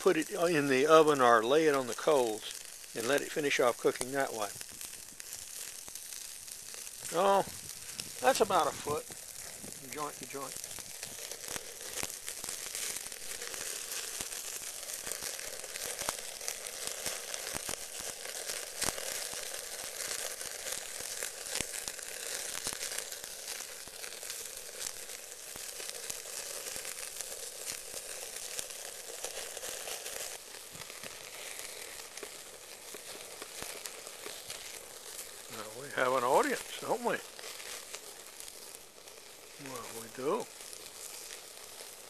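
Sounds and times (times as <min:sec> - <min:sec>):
meat sizzling over charcoal: 0:00.0 - 0:42.0.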